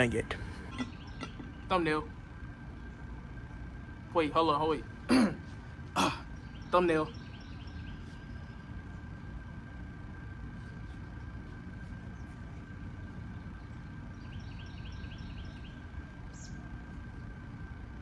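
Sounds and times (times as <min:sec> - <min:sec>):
faint high hum: 0:00.0 - 0:18.0.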